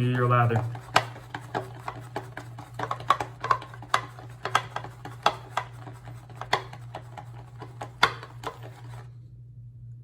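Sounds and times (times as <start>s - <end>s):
brush tapping against bowl: 0.0s - 9.0s
shaving brush swishing in bowl: 0.0s - 9.1s
steady low hum: 0.0s - 10.0s.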